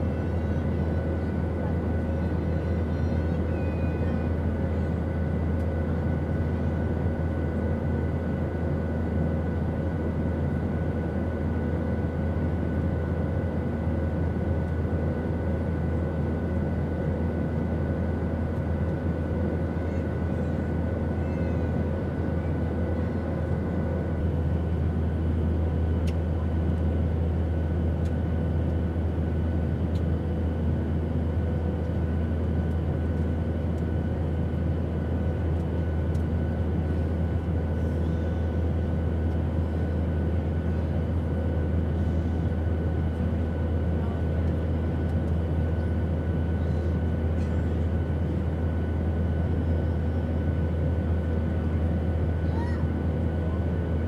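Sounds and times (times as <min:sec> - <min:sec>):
airplane engine drone: 0:00.0 - 0:54.0
faint steady whines: 0:00.0 - 0:54.0.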